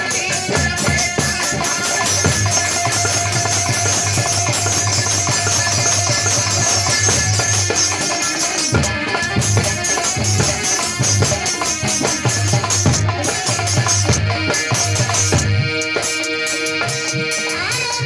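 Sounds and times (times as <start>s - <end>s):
drum beat: 0.0s - 18.0s
jingling percussion: 0.0s - 18.0s.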